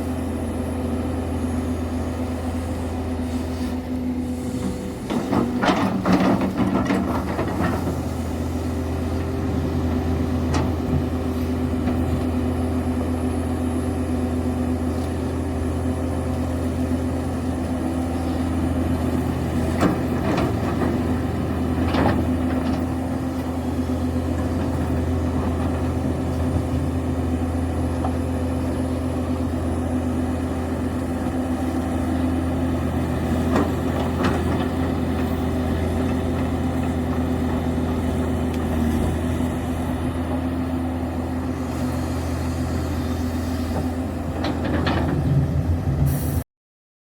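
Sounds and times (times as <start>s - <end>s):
excavator diesel engine running: 0.0s - 46.4s.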